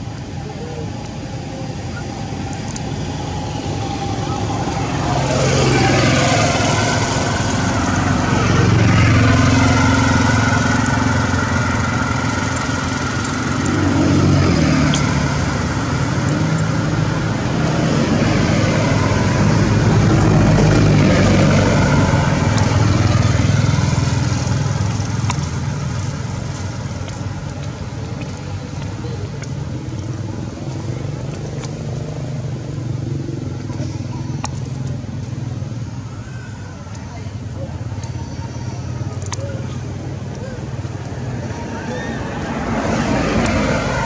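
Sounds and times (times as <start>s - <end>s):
road traffic engine noise: 0.0s - 44.0s.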